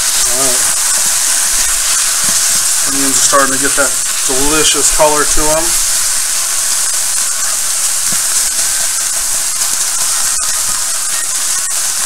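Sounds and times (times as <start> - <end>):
onions sizzling in a skillet: 0.0 - 12.0.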